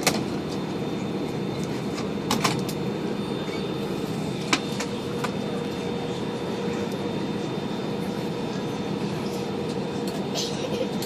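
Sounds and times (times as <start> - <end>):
airliner cabin ventilation hum: 0.0 - 11.0.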